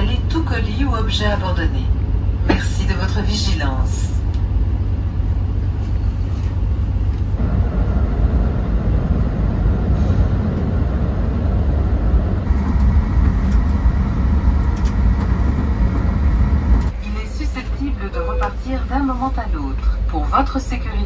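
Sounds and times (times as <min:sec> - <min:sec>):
train carriage rumble and hum: 0:00.0 - 0:21.0.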